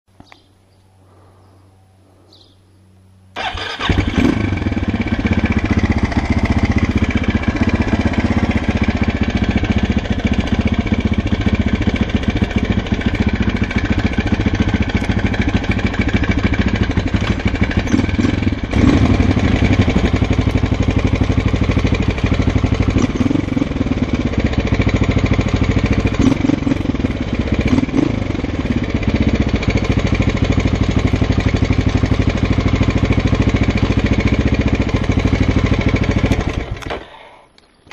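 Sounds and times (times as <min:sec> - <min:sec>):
motorcycle engine starting and running: 0:03.3 - 0:37.9
engine knock: 0:05.0 - 0:36.9.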